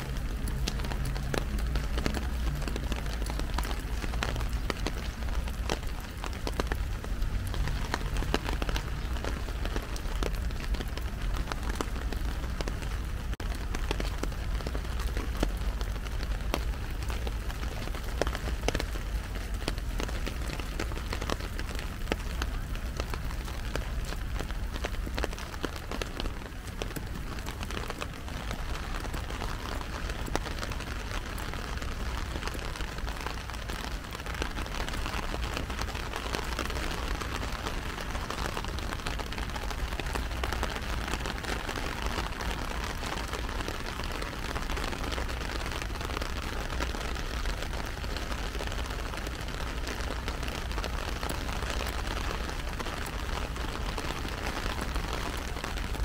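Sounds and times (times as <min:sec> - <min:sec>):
heavy rain on an umbrella: 0:00.0 - 0:56.0.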